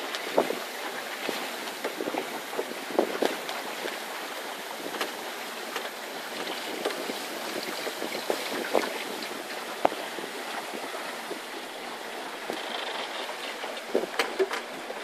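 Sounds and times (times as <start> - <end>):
water rushing along boat hull: 0.0 - 15.0
wind noise: 0.0 - 15.0.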